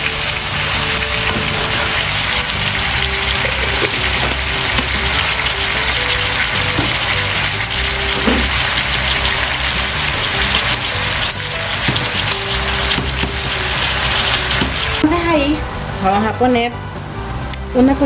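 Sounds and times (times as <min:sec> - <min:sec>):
vegetables sizzling in a pan: 0:00.0 - 0:16.6
background music: 0:00.0 - 0:18.0.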